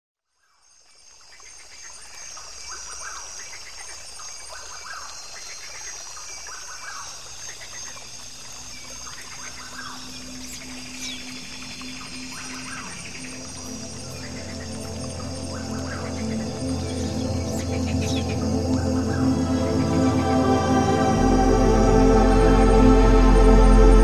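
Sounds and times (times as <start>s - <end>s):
high insect drone: 0.7s - 24.0s.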